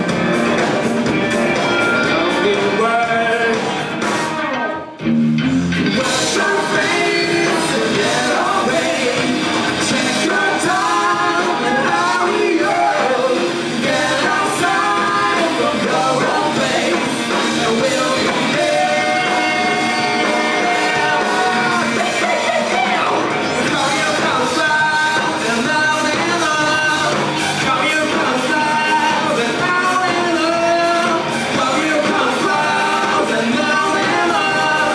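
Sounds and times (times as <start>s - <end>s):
rock band playing: 0.0s - 34.9s
person singing: 1.6s - 5.0s, 5.9s - 34.9s.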